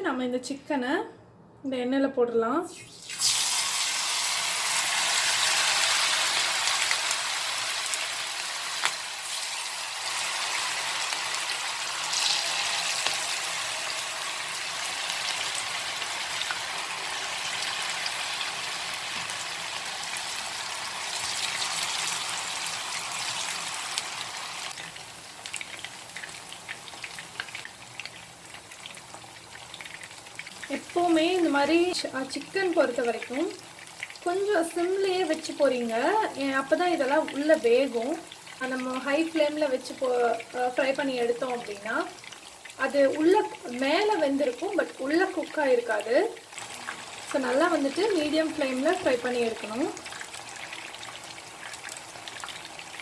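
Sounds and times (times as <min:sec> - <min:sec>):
chicken sizzling in hot oil: 0:02.7 - 0:53.0.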